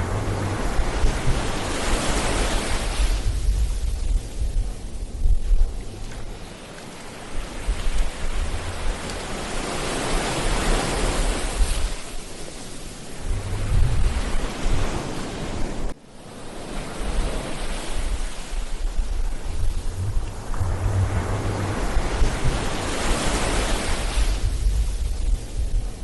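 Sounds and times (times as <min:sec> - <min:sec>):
wind buffeting microphone: 0:00.0 - 0:16.0, 0:17.0 - 0:26.0
ocean surf washing onto beach: 0:00.0 - 0:26.0.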